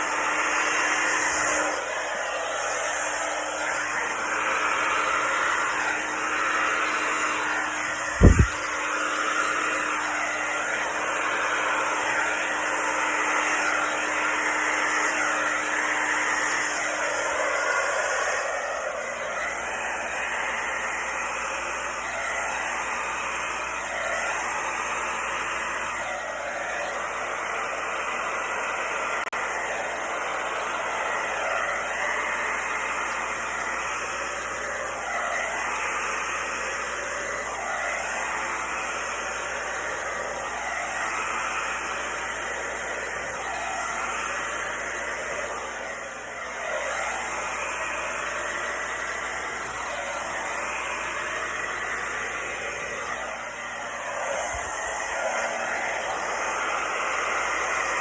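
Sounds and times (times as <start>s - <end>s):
electric blower hissing: 0.0s - 58.0s.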